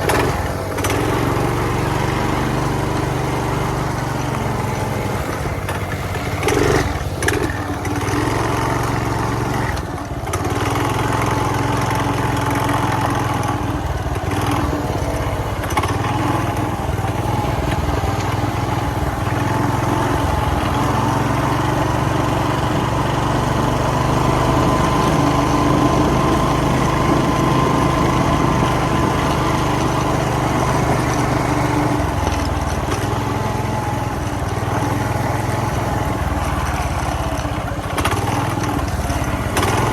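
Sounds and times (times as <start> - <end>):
mini dirt bike engine: 0.0 - 39.9.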